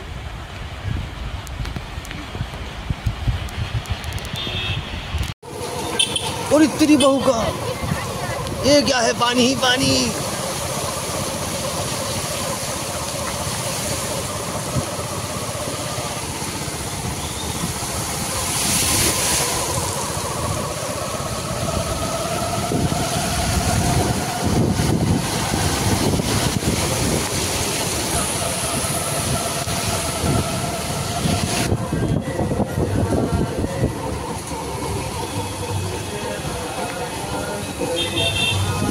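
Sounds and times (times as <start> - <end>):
vehicle engines running: 0.0 - 38.9
tyres hissing through water: 5.5 - 38.9.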